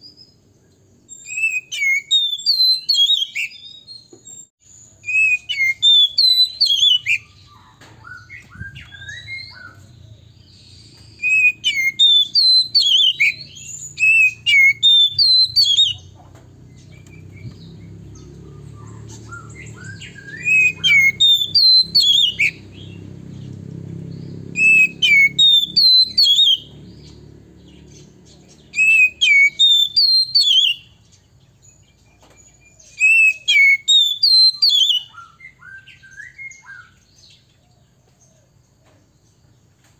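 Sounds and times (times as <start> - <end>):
bird singing whistled notes: 0.0 - 37.6.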